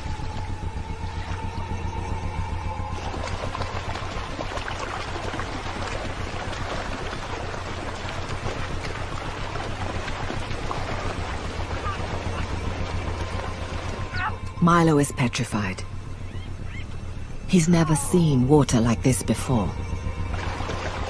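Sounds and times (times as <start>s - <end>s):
water splashing: 0.0s - 15.7s, 17.6s - 21.0s
low drone: 0.0s - 21.0s.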